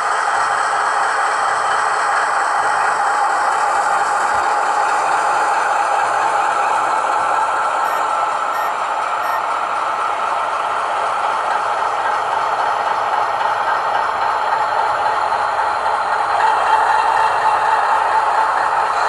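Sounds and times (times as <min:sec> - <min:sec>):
diesel engine sound from speaker: 0:00.0 - 0:19.0
model train rattling on rails: 0:00.0 - 0:19.0.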